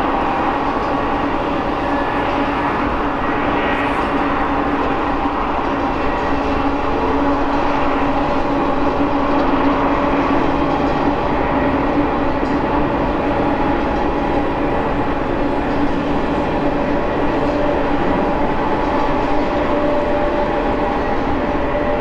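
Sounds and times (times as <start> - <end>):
steady droning tone: 0.0 - 22.0
train wheels rumbling on rail: 0.0 - 22.0.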